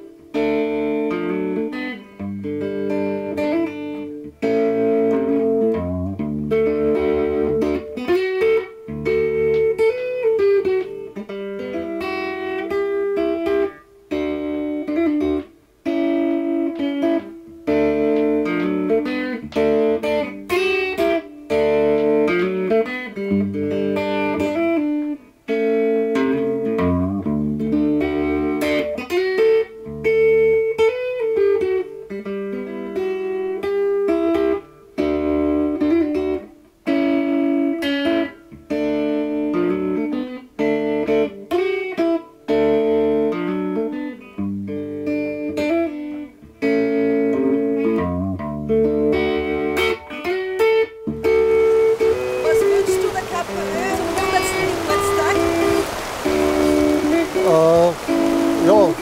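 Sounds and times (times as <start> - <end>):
plucked guitar music: 0.0 - 59.0.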